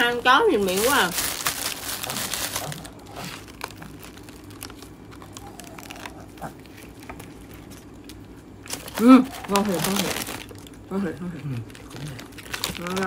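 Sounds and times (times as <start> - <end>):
chewing with crackles: 1.1 - 13.0.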